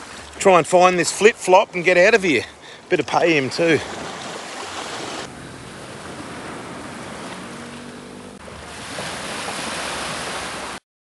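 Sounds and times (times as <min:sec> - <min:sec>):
surf washing at shoreline: 0:00.0 - 0:10.8.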